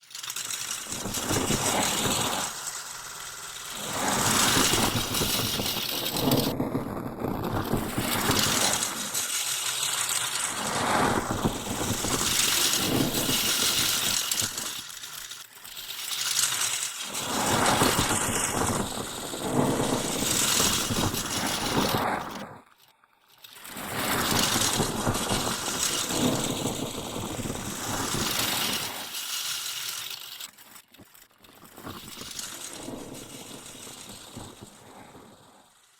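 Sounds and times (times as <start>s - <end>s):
glitchy crinkling plastic texture: 0.0s - 35.9s.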